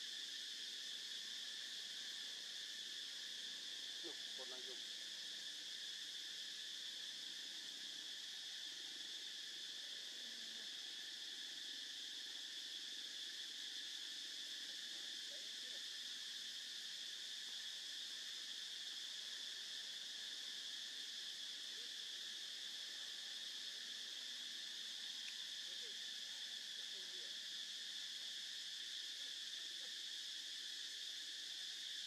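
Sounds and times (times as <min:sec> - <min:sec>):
forest insects droning: 0:00.0 - 0:32.0.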